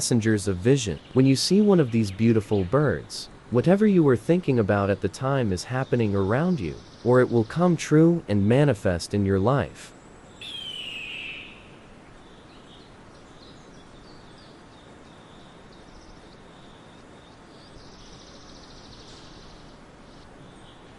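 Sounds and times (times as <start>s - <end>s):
outdoor background noise: 0.0s - 20.9s
small birds chirping: 0.1s - 8.8s, 9.5s - 20.9s.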